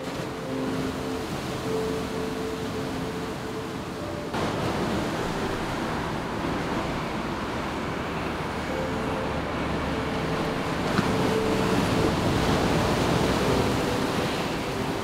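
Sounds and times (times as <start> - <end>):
surf washing on shore: 0.0 - 15.0.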